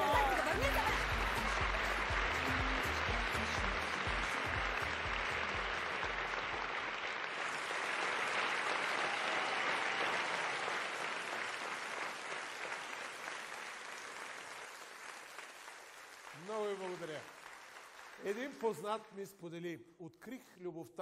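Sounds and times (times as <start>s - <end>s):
audience applauding: 0.0s - 19.1s.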